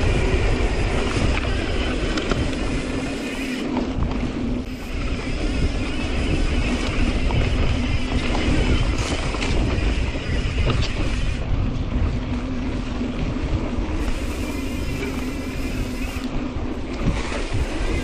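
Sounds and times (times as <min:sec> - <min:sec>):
bike tyre rumble on dirt: 0:00.0 - 0:18.0
wind buffeting microphone: 0:00.0 - 0:18.0.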